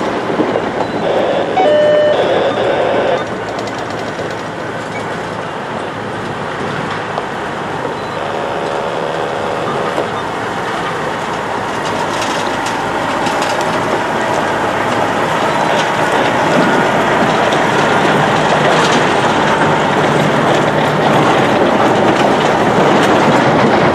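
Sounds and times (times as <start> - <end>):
truck engine running: 0.0 - 23.9.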